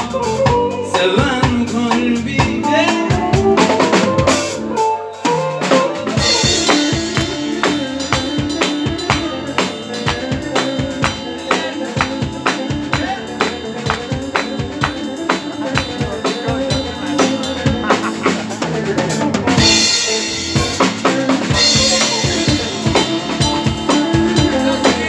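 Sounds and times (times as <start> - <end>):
drum kit beat: 0.0 - 25.0
live band playing: 0.0 - 25.0.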